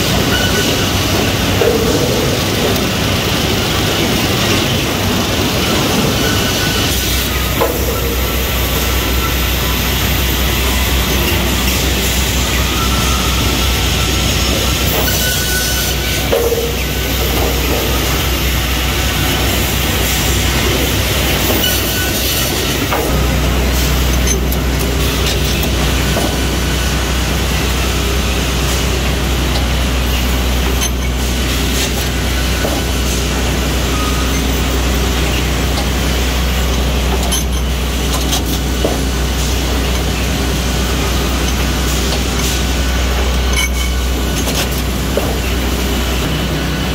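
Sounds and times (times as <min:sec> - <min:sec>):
feed chains running: 0:00.0 - 0:46.2
conveyor rollers running: 0:00.0 - 0:46.9
machinery running: 0:00.0 - 0:46.9.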